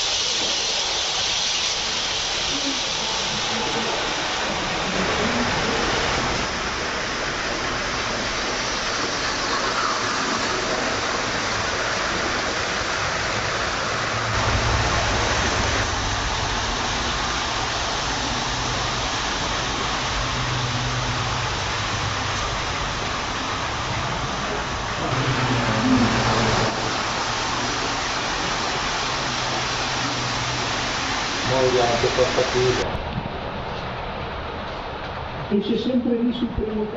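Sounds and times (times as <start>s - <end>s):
model train wheels and motors hissing: 0.0s - 32.8s.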